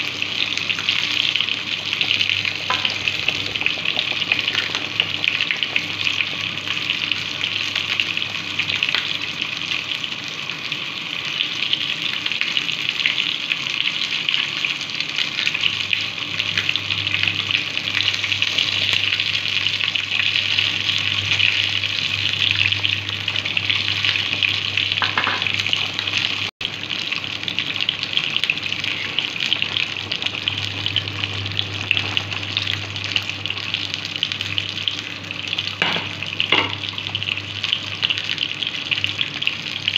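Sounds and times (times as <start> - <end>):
soup boiling and bubbling: 0.0 - 39.9.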